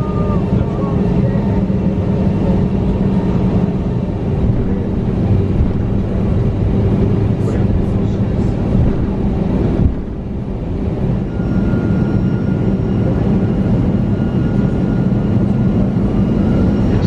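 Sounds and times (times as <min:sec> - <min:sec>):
jet engines droning: 0:00.0 - 0:17.0.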